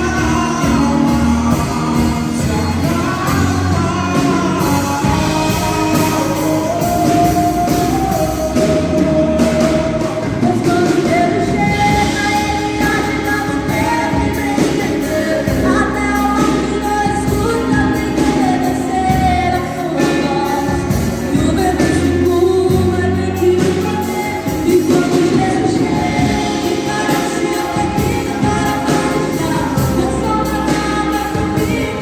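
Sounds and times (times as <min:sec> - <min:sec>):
backing band with bass and drums: 0:00.0 - 0:32.0
person singing gospel: 0:00.0 - 0:32.0.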